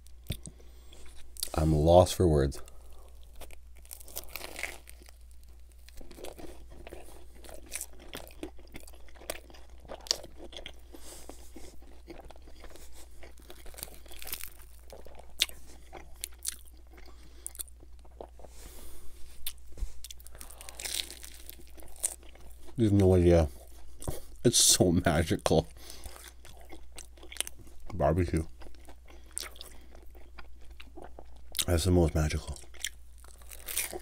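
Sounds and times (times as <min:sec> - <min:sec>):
person chewing crunchy crust: 0:00.0 - 0:01.6, 0:02.6 - 0:24.5, 0:25.1 - 0:34.0.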